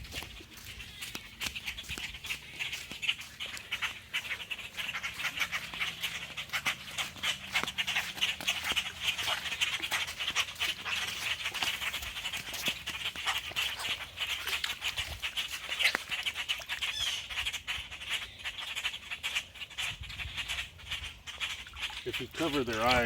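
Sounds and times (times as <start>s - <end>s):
bird squawking in distress: 1.6s - 23.0s.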